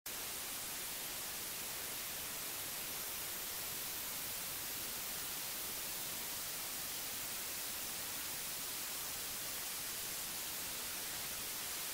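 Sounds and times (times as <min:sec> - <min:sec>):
television static hiss: 0:00.1 - 0:11.9.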